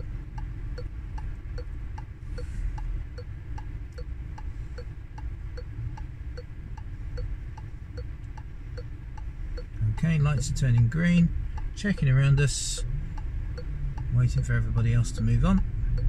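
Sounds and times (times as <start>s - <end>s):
car turn indicator ticking: 0.0s - 16.0s
low cabin rumble: 0.0s - 16.0s.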